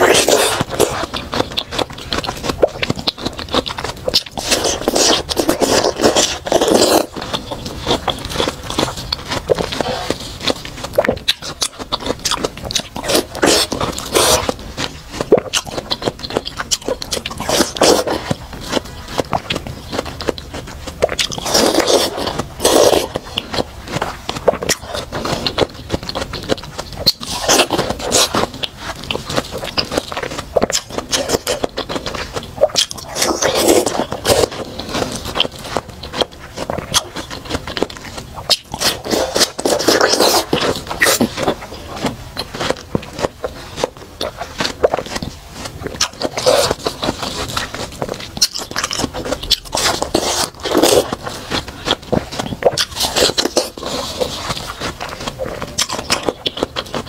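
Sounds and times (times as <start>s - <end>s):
crunching watermelon bites: 0.0s - 57.0s
juicy chewing: 0.0s - 57.0s.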